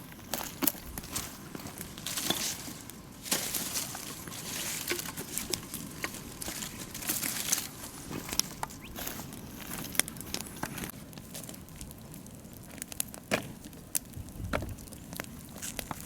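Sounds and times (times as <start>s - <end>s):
bonfire crackling and snapping: 0.0s - 16.0s
fire hissing: 0.0s - 16.0s.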